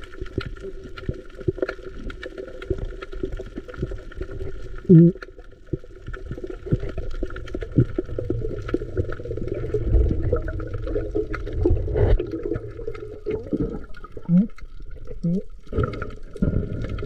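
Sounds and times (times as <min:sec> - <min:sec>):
seawater sloshing and gurgling: 0:00.0 - 0:17.0.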